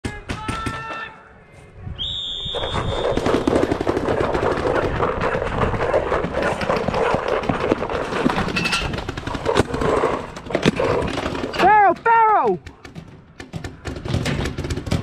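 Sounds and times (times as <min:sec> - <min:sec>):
paintball markers firing rapidly: 0:02.9 - 0:15.0.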